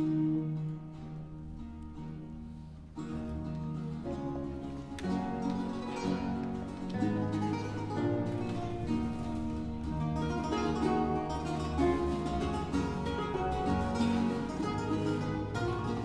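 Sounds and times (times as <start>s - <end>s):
baroque ensemble playing: 0.0s - 16.0s
strummed and plucked guitars: 0.0s - 16.0s.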